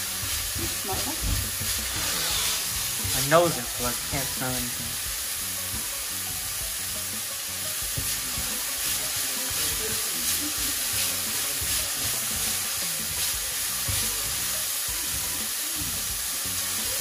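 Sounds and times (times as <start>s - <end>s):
stirring in a pan: 0.0s - 14.6s
vegetables sizzling in a frying pan: 0.0s - 17.0s.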